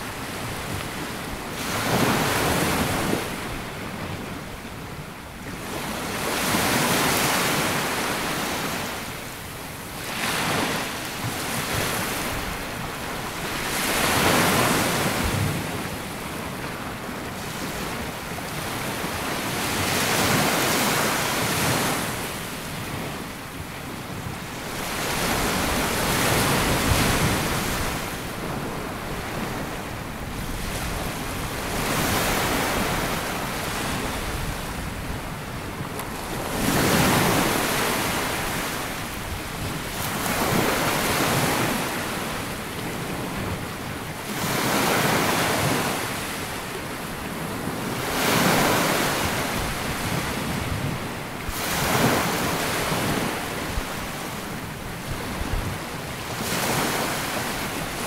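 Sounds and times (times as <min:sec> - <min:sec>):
small waves breaking on beach: 0:00.0 - 0:58.0
wind on microphone: 0:00.0 - 0:58.0.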